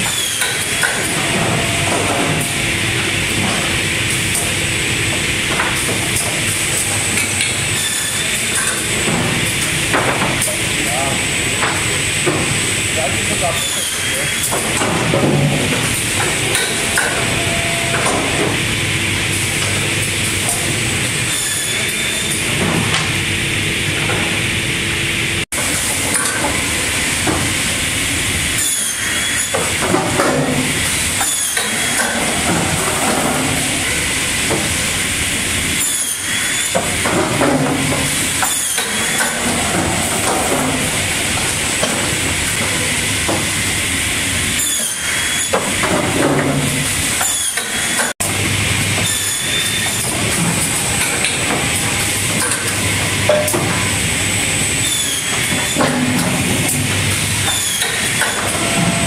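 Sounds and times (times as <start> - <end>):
steady machinery noise: 0.0 - 59.0.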